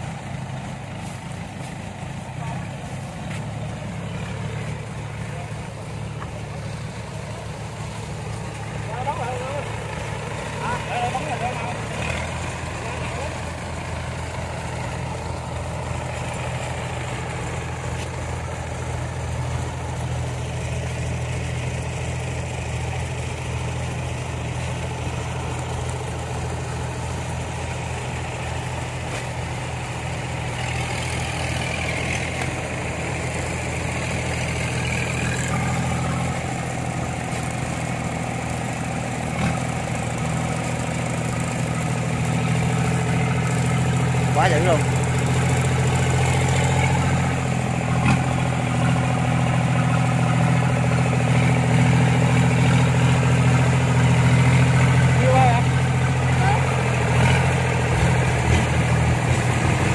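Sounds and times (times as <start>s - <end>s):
cart engine idling: 0.0s - 59.9s.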